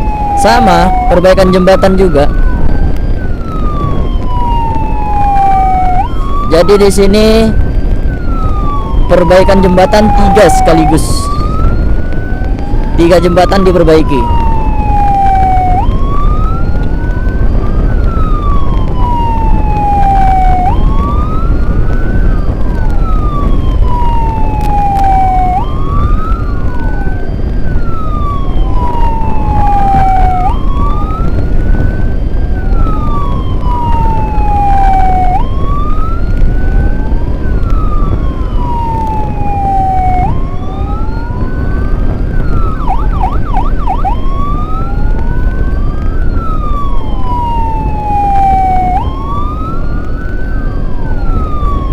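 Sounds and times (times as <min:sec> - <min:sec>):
engine and road noise rumble: 0:00.0 - 0:51.9
siren wailing: 0:00.0 - 0:51.9.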